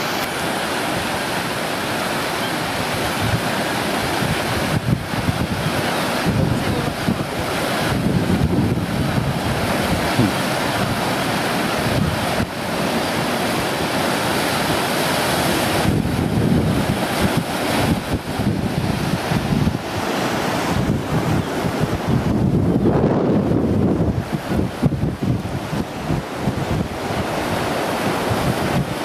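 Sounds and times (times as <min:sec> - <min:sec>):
heavy surf breaking: 0:00.0 - 0:29.0
wind buffeting microphone: 0:02.7 - 0:29.0.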